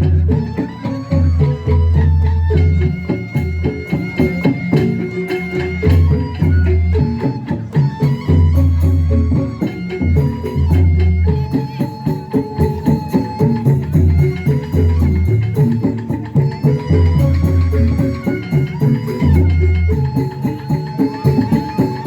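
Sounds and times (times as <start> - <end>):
busy percussion beat: 0.0 - 22.0
live folk band music: 0.0 - 22.0.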